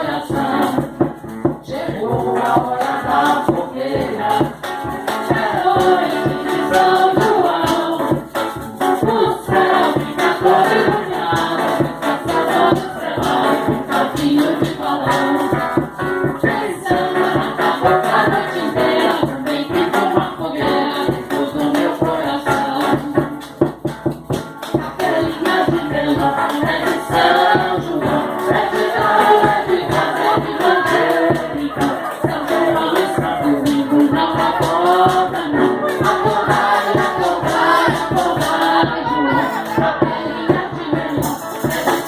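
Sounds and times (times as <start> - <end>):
group of voices singing: 0.0 - 23.7, 24.6 - 42.0
shaker rattling: 0.1 - 39.8, 41.1 - 42.0.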